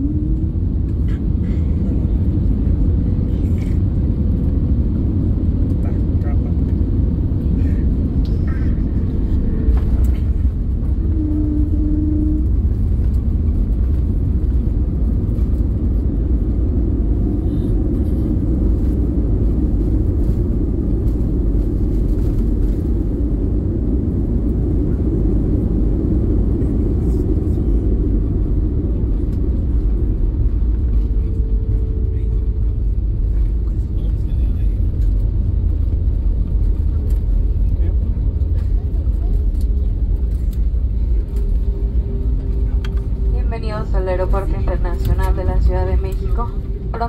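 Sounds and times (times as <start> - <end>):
low rumble of wheels and engines: 0.0 - 47.0.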